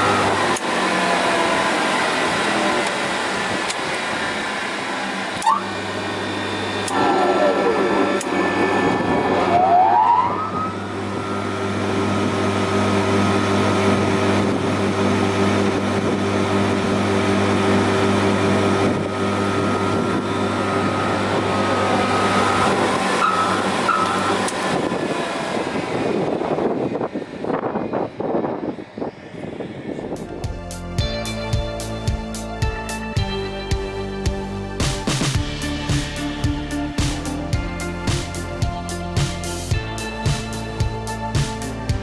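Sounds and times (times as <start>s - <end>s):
electric motor whine winding up: 0.0s - 34.7s
machine running with strong hum: 0.0s - 42.0s.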